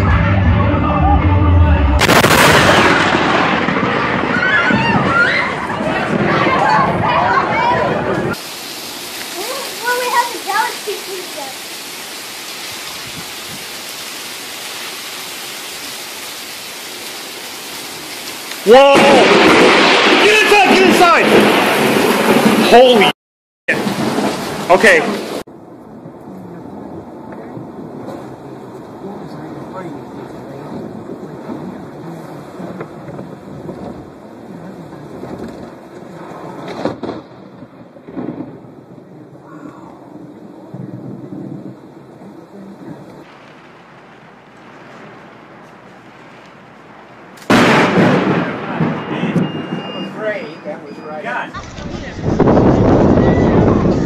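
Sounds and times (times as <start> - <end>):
thunder rumbling: 0.0 - 11.8, 16.9 - 23.1, 23.7 - 50.2, 51.6 - 54.0
heavy rain pouring: 0.0 - 54.0
car tyres on wet road: 4.4 - 23.1, 23.7 - 50.9, 51.5 - 54.0.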